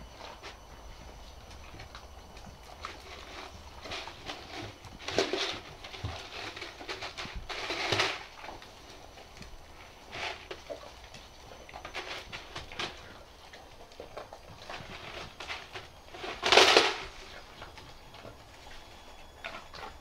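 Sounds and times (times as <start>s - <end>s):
kibble rattling: 0.0s - 20.0s.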